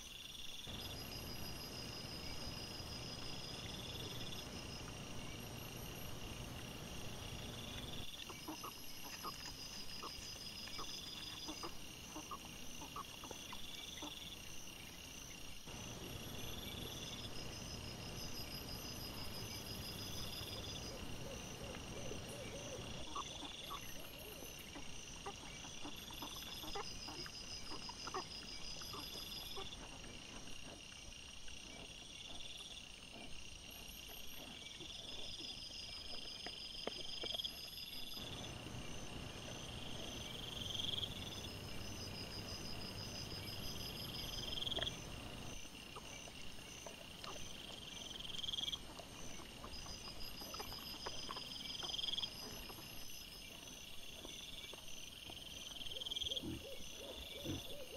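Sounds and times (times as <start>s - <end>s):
insects chirping: 0.0s - 57.9s.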